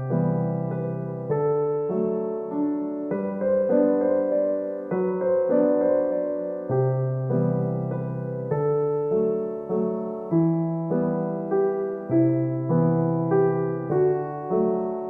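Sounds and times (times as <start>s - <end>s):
soft electric piano tune: 0.0s - 15.0s.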